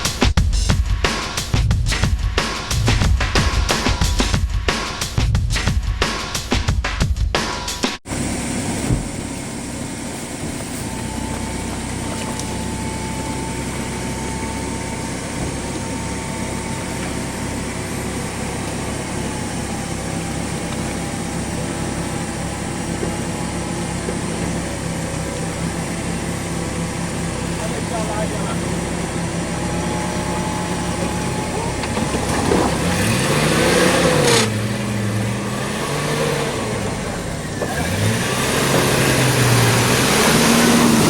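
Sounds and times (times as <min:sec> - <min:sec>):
vehicle engine droning: 0:08.0 - 0:41.0.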